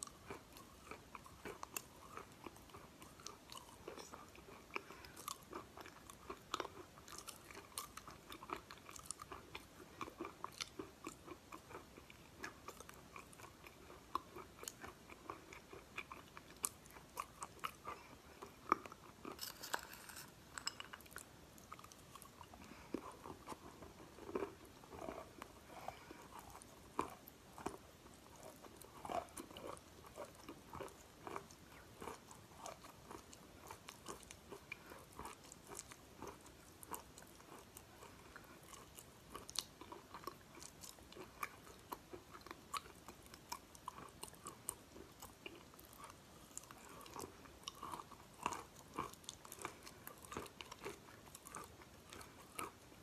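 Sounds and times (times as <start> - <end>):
chalk being chewed: 0.0 - 53.0.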